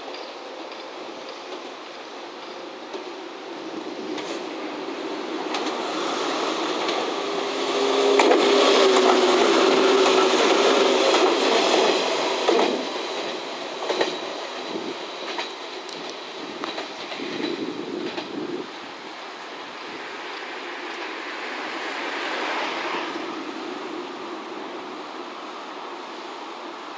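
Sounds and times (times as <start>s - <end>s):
wheels clacking over rail joints: 0.0s - 23.3s
electric train running: 0.0s - 24.6s.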